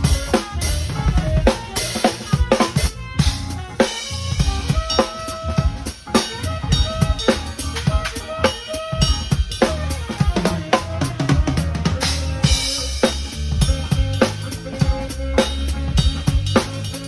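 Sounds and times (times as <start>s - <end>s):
drum kit groove: 0.0s - 17.0s.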